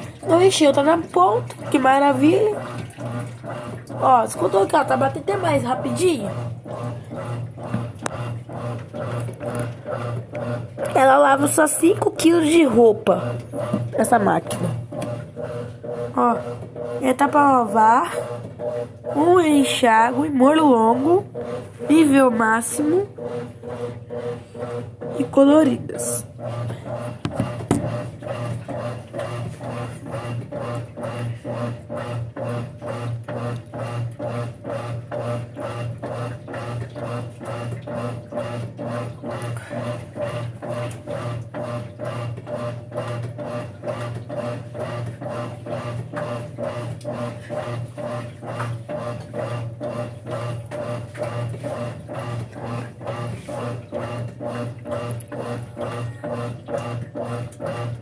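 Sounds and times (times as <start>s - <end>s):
washing machine churning: 0.0s - 58.0s
washing machine motor hum: 0.0s - 58.0s.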